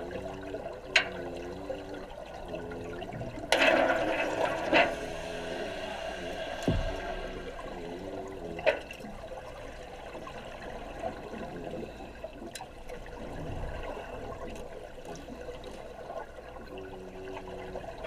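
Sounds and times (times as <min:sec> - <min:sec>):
water bubbling and churning: 0:00.0 - 0:18.0.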